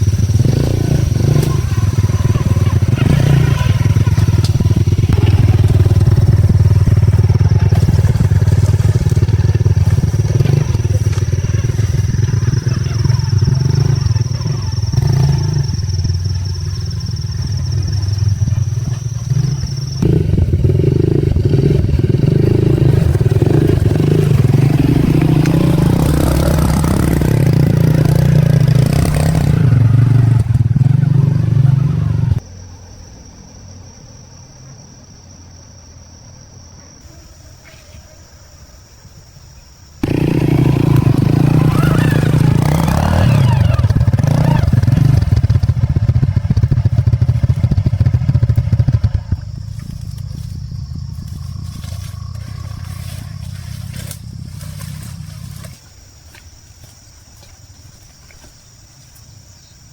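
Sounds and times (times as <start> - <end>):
motorbike engine running: 0.0 - 32.4, 40.0 - 57.0.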